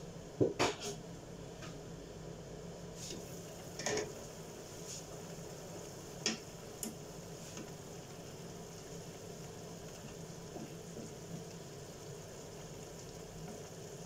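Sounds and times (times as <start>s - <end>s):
food sizzling in a frying pan: 2.6s - 14.0s.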